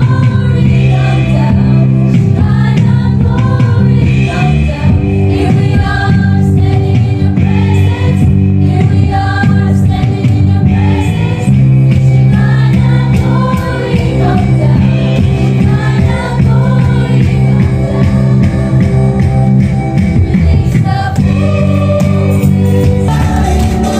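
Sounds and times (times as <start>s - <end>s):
women singing gospel song: 0.0s - 19.4s, 20.2s - 23.9s.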